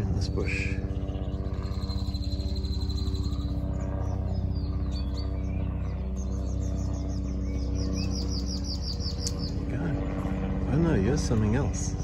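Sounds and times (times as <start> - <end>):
songbirds chirping and whistling: 0.0 - 12.0
steady low hum: 0.0 - 12.0.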